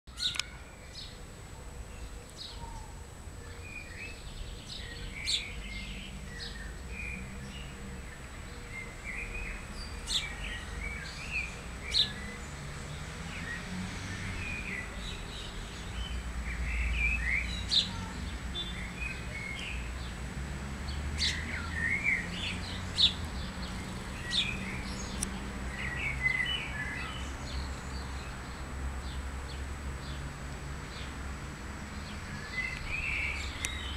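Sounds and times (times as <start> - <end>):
sparrows chirping: 0.1 - 33.9.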